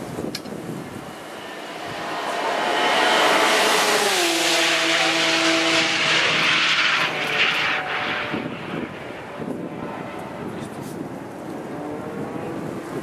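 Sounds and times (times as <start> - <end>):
race car passing at full throttle: 0.0 - 13.0.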